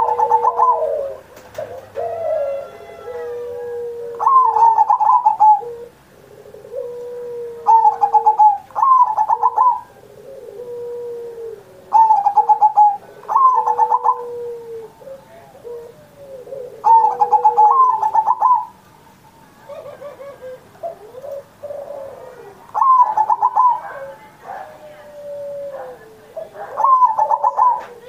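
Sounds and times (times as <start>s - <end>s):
dove cooing in stuttering notes: 0.0s - 18.7s, 19.7s - 28.0s
soft low drawn-out cooing: 0.0s - 18.8s, 19.6s - 28.0s.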